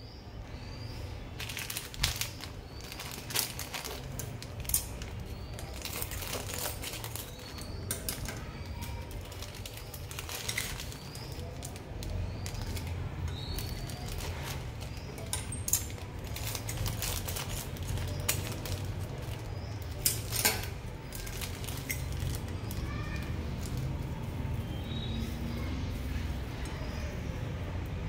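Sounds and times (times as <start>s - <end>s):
plastic packets crinkling: 1.2s - 25.4s
dried stems rustling: 1.2s - 28.0s.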